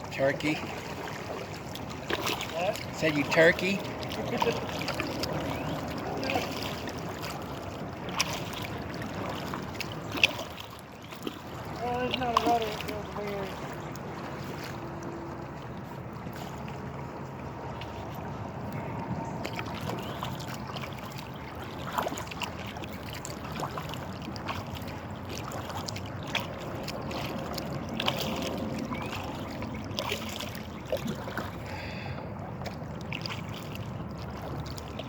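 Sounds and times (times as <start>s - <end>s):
water splashing against kayak hull: 0.0s - 35.0s.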